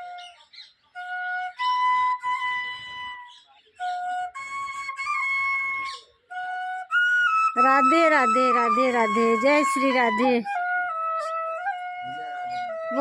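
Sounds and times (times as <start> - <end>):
bamboo flute melody: 0.0 - 13.0.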